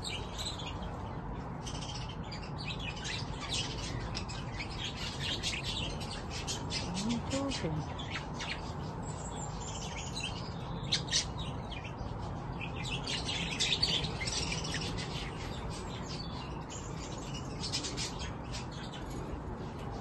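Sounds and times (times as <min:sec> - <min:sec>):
budgerigars chirping: 0:00.0 - 0:20.0.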